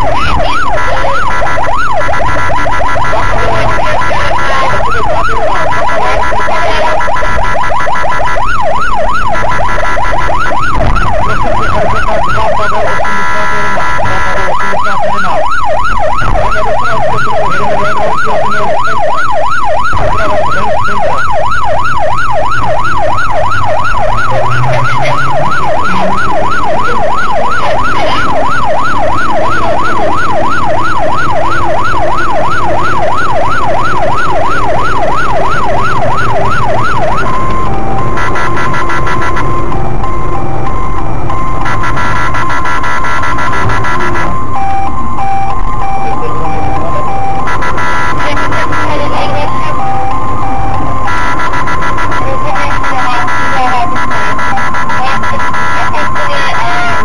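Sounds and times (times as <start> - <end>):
car engine: 0.0 - 57.0
police siren yelping: 0.0 - 57.0
road noise: 0.0 - 57.0.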